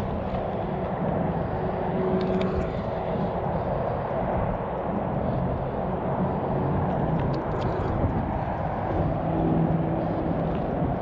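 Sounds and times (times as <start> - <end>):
distant motor rumble: 0.0 - 11.0
faint hum: 0.0 - 11.0.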